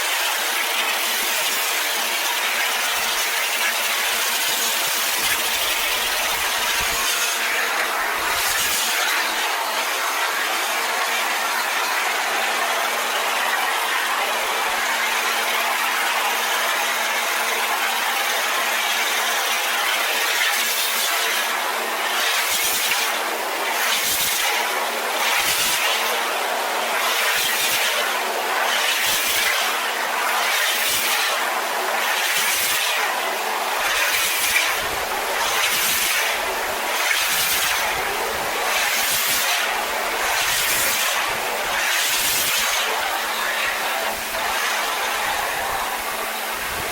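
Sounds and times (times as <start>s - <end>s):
pressure washer spray on metal: 0.0s - 46.9s.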